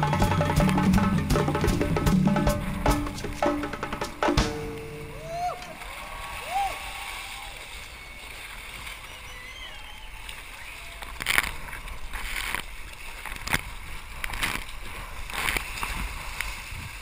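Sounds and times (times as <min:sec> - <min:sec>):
water sloshing and splashing: 0:00.0 - 0:09.4, 0:10.2 - 0:17.0
paddle splashes: 0:00.0 - 0:17.0.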